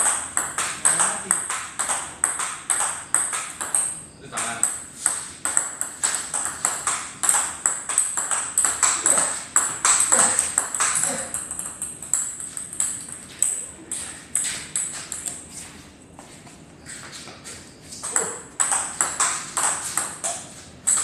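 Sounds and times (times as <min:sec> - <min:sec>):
table tennis ball clicking: 0:00.0 - 0:15.4, 0:18.0 - 0:21.0.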